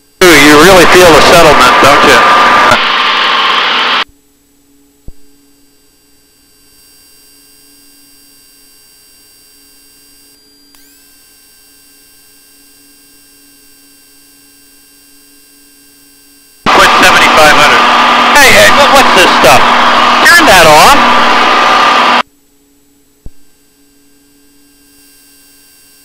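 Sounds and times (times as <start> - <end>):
electrical hum and whine: 0.0 - 26.0.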